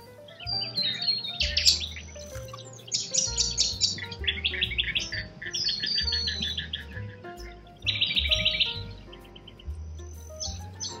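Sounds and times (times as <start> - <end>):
background music with bass line: 0.0 - 11.0
birds chirping: 0.0 - 11.0.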